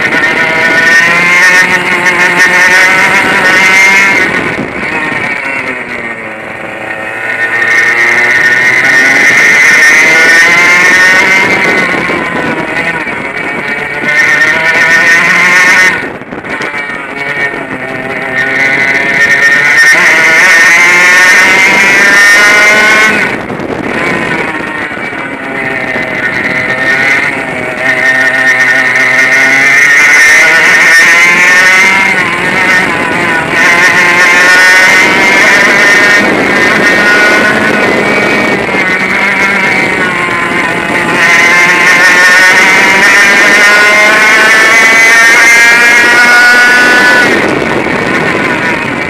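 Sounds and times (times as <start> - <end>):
kart engine revving: 0.0 - 49.0.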